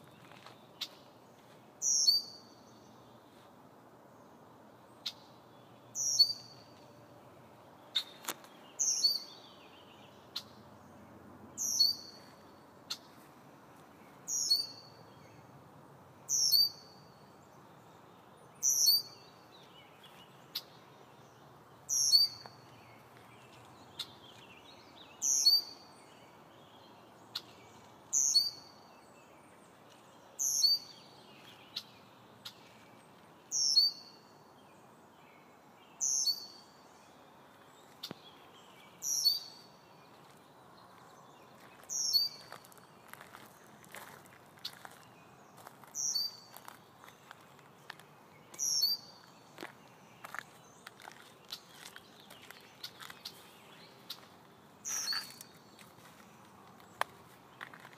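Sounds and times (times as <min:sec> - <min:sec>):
faint background hiss: 0:00.0 - 0:57.9.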